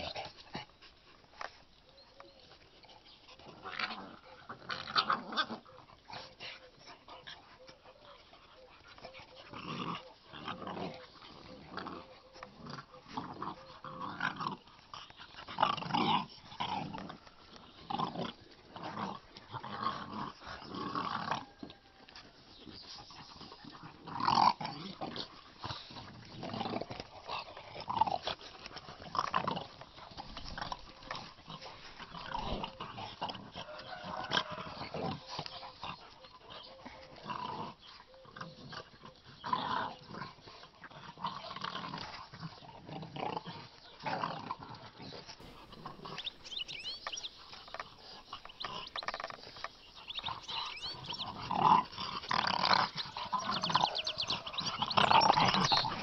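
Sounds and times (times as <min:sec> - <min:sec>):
dogs growling: 0:02.4 - 0:56.0.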